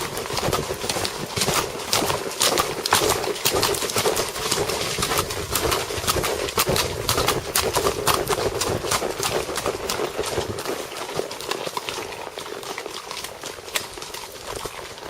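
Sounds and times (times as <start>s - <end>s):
horse hoofbeats: 0.0s - 15.0s.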